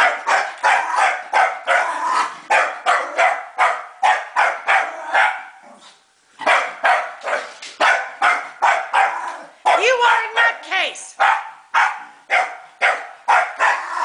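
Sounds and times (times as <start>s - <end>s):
dog barking sharply: 0.0s - 1.9s, 2.5s - 5.5s, 6.4s - 10.0s, 11.2s - 13.9s.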